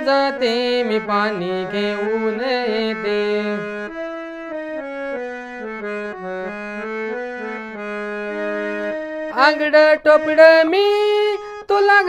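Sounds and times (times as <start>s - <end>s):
harmonium melody: 0.0s - 12.0s.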